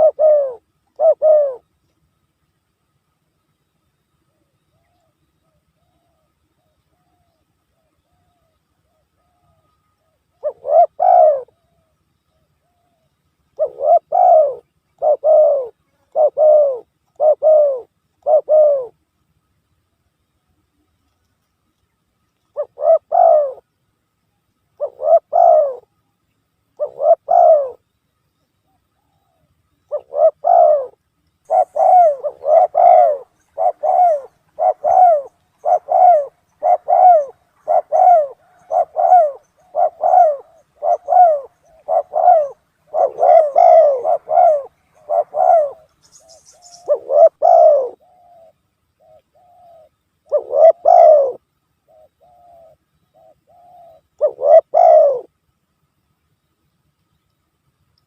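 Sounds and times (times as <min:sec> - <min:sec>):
dove cooing: 0:00.0 - 0:01.7, 0:04.3 - 0:19.0, 0:22.5 - 0:23.7, 0:24.8 - 0:26.0, 0:26.8 - 0:27.8, 0:28.7 - 0:55.3.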